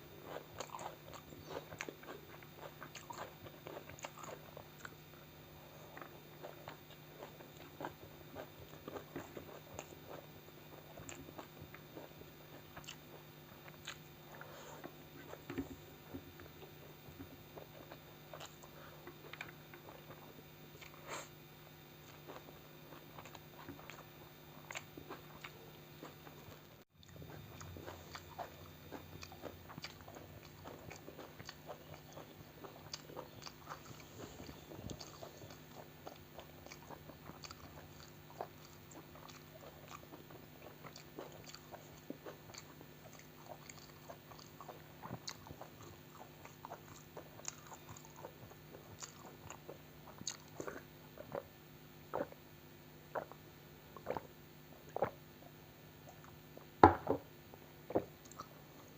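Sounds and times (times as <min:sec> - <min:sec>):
close chewing and mouth sounds: 0:00.0 - 0:56.8, 0:57.5 - 0:58.9
faint low hum: 0:00.0 - 0:58.9.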